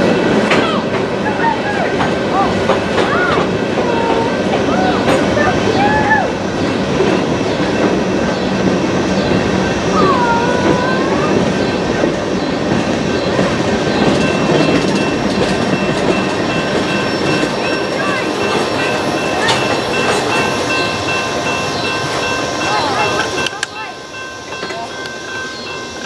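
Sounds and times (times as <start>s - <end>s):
freight train wheels clattering: 0.0s - 26.0s.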